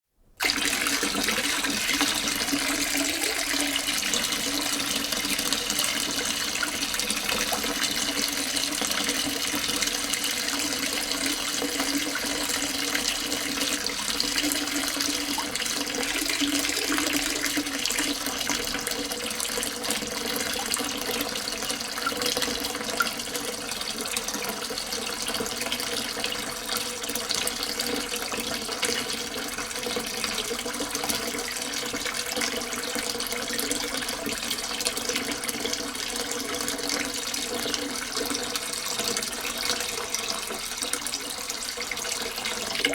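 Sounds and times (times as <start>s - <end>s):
tap water pouring into sink: 0.4s - 42.9s.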